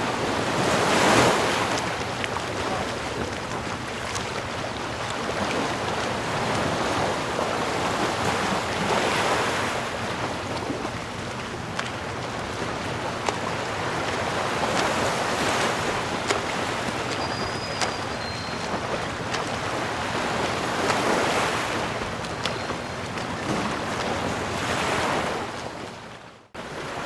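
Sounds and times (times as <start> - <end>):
ocean waves washing onto shore: 0.0 - 27.0.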